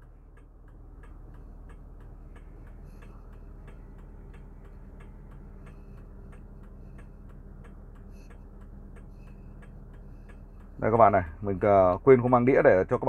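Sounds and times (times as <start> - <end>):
car engine idling hum: 0.0 - 13.0
even ticking: 0.0 - 13.0.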